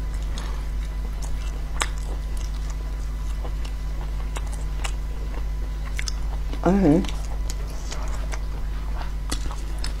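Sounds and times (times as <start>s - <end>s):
person chewing: 0.0s - 10.0s
steady low hum: 0.0s - 10.0s.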